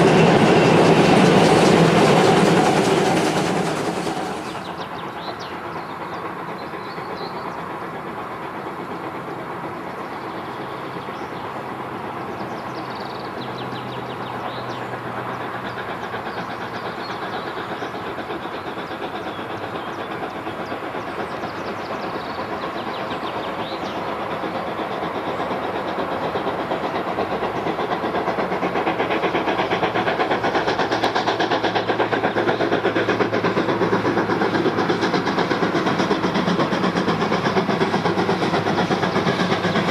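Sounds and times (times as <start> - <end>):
train running on tracks: 0.0 - 39.9.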